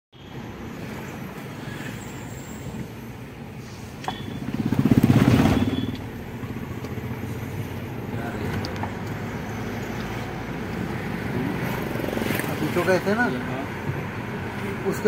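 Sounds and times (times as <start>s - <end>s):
car engine and road noise: 0.1s - 15.0s.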